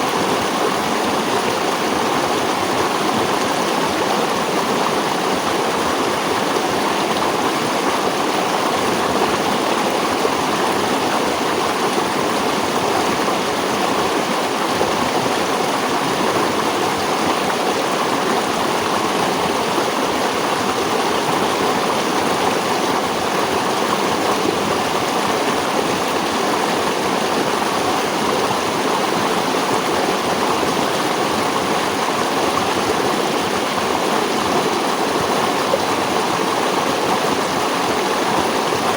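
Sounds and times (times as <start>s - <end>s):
stream splashing over rocks: 0.0s - 38.9s.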